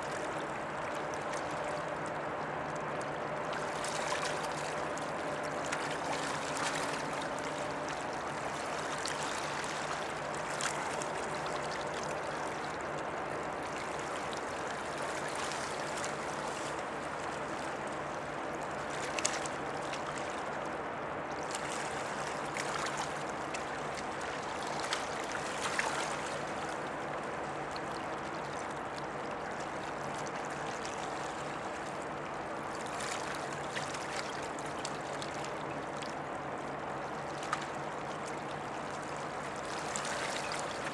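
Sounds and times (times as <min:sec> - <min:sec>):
ship engine low hum: 0:00.0 - 0:40.9
water lapping against bank: 0:00.0 - 0:40.9
small splashes: 0:02.8 - 0:20.5, 0:21.4 - 0:32.0, 0:32.8 - 0:40.9.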